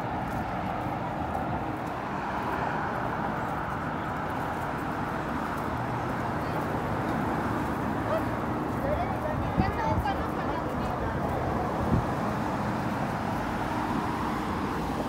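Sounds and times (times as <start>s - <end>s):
city road traffic passing: 0.0s - 15.0s.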